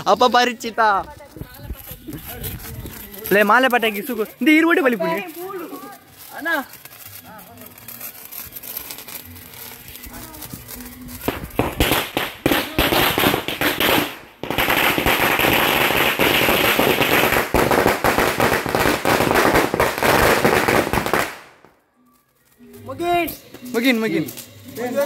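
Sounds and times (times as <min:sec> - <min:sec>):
string of firecrackers banging: 0:00.9 - 0:21.8.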